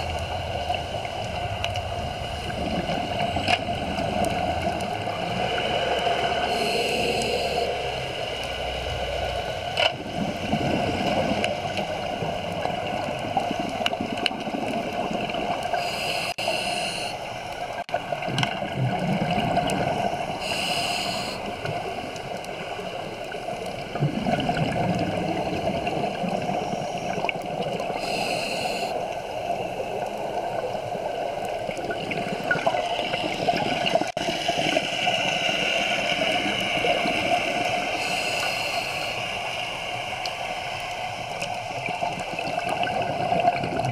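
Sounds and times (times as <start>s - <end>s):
underwater hiss and gurgle: 0.0s - 43.9s.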